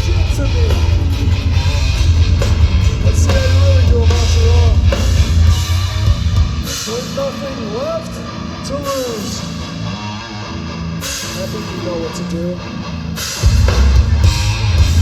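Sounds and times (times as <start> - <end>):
drum kit: 0.0 - 10.1, 10.9 - 15.0
bass guitar: 0.0 - 15.0
distorted electric guitars: 0.0 - 15.0.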